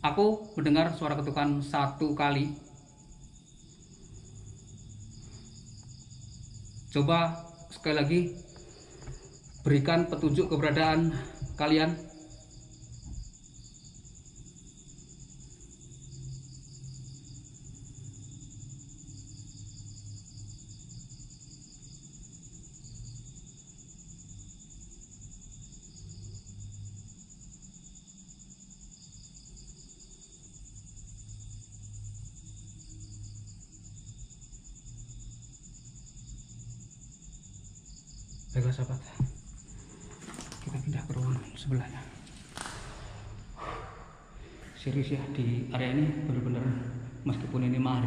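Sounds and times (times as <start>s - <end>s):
high pulsing insect trill: 0.0s - 48.0s
pulsed insect chirping: 0.0s - 48.0s.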